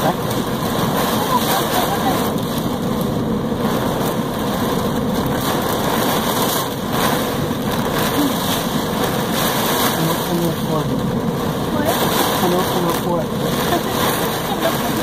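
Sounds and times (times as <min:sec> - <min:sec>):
gusting wind: 0:00.0 - 0:15.0
heavy rain roaring: 0:00.0 - 0:15.0.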